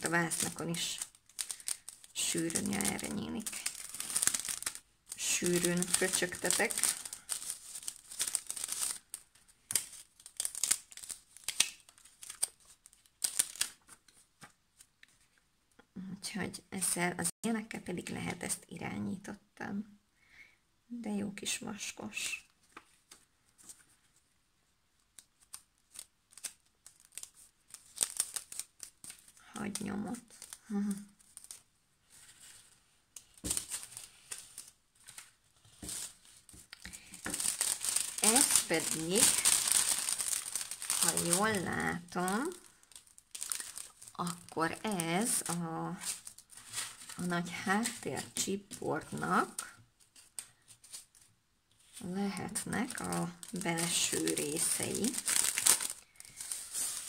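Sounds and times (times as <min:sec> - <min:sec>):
plastic packaging crinkling: 0:00.0 - 0:15.2, 0:25.0 - 0:57.0.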